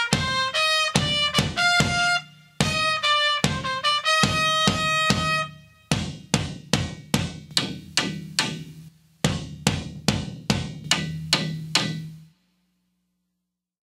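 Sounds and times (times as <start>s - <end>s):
drum beat: 0.0s - 12.3s.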